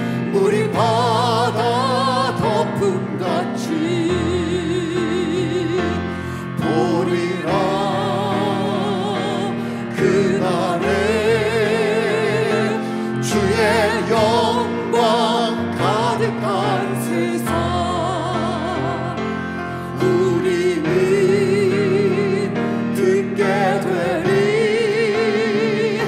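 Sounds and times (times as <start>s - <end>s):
grand piano accompaniment: 0.0s - 26.0s
man and woman singing: 0.1s - 26.0s.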